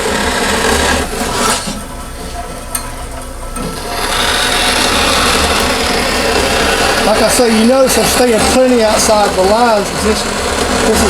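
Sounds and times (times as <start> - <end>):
bandsaw cutting plastic: 0.0 - 2.8, 3.6 - 11.0.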